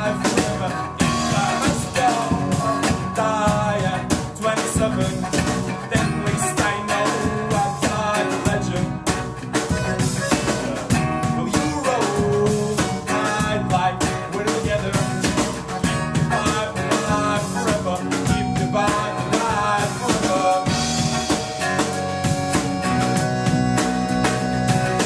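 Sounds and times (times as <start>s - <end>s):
accordion: 0.0s - 25.0s
bass: 0.0s - 25.0s
drum kit with cymbals: 0.0s - 25.0s
guitar: 0.0s - 25.0s.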